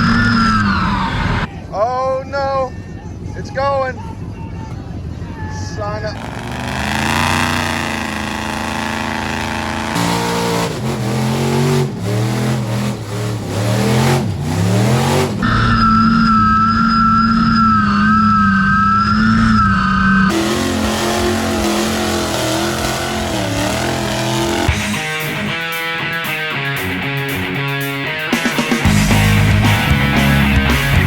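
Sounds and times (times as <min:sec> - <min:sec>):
truck engines revving: 0:00.0 - 0:31.0.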